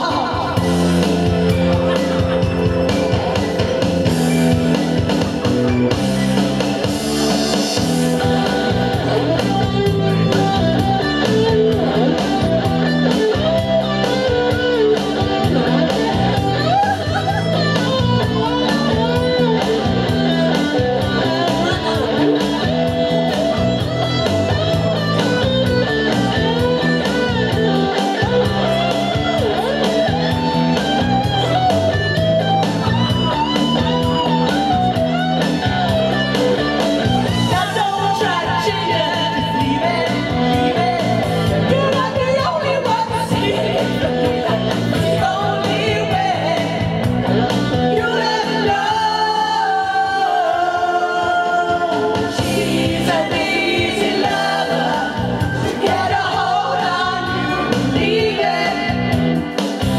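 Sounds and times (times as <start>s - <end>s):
person singing: 0.0s - 3.8s, 8.2s - 59.8s
rock guitar backing track: 0.0s - 59.9s.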